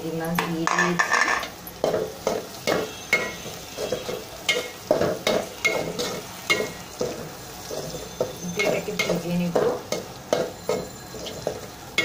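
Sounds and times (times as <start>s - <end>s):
food sizzling in oil: 0.0s - 12.0s
metal spatula scraping a pot: 0.7s - 12.0s.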